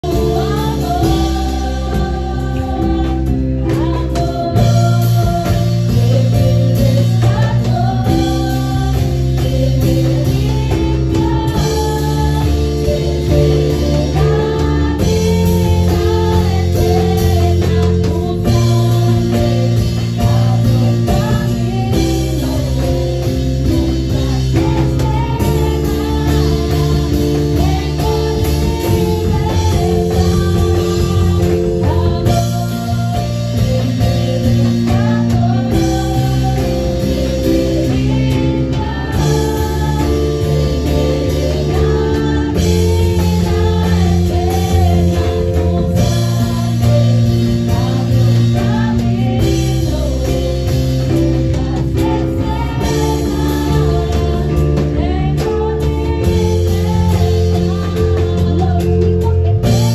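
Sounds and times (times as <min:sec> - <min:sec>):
drum kit beat: 0:00.0 - 0:59.9
guitar: 0:00.0 - 0:59.9
woman singing into microphone: 0:00.0 - 0:59.9.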